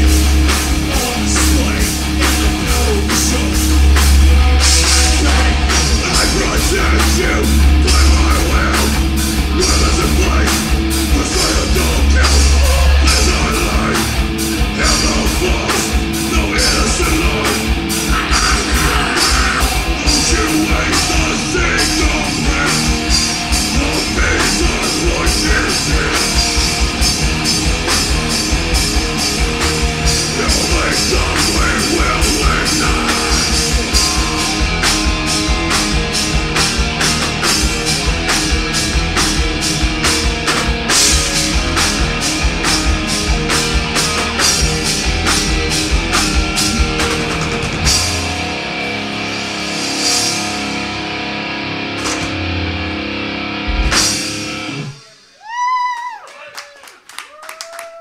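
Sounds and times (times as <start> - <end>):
rapid kick drum strokes: 0.0 - 50.8
distorted electric guitars: 0.0 - 55.4
heavy metal band playing live: 0.0 - 55.4.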